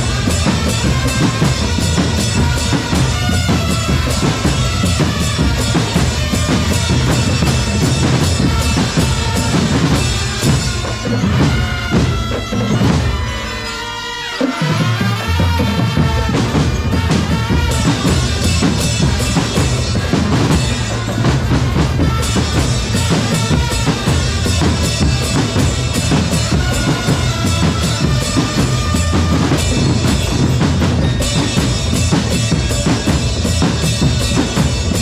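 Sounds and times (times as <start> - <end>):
bass drums and snares: 0.0 - 13.3, 15.0 - 35.0.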